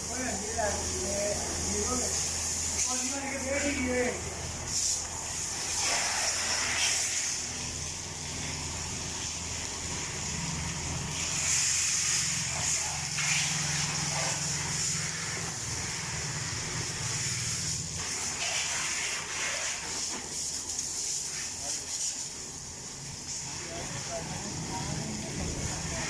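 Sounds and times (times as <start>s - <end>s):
pressure washer spray hissing: 0.0s - 26.0s.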